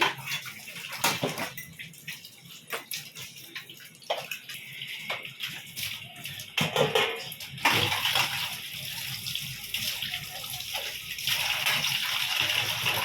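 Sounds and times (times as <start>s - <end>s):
tap water splashing over dishes: 0.0s - 13.0s.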